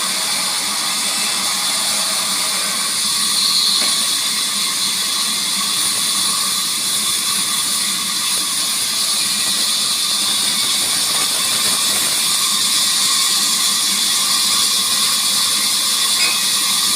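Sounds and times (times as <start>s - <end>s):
high-pitched machinery whir: 0.0s - 16.9s.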